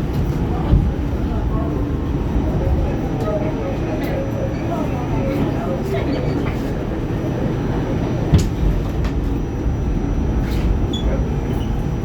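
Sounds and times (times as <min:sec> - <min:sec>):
subway car rumbling on track: 0:00.0 - 0:12.0.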